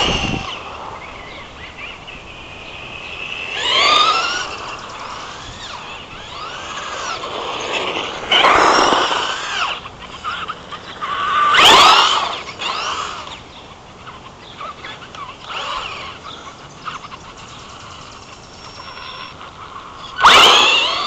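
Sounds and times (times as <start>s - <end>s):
rc truck motor whining past: 0.0s - 21.0s.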